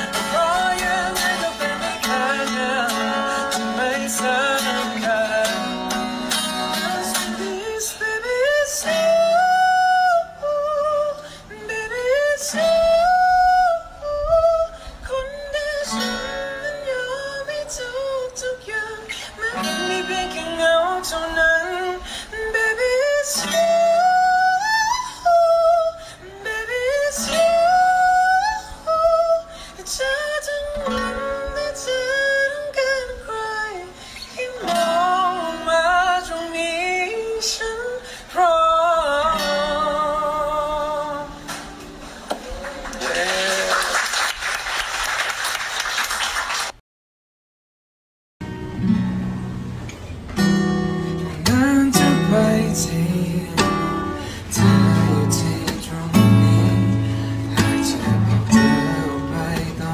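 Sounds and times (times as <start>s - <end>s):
man singing: 0.0s - 41.8s, 51.2s - 59.9s
acoustic guitar strumming: 0.0s - 42.3s, 48.4s - 59.9s.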